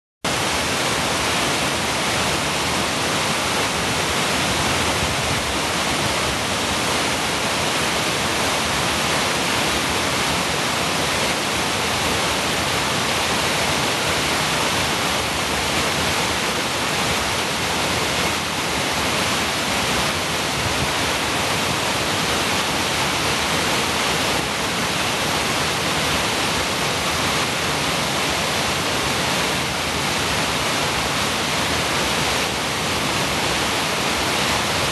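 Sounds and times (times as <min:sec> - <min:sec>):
waterfall rushing over rocks: 0:00.3 - 0:34.9.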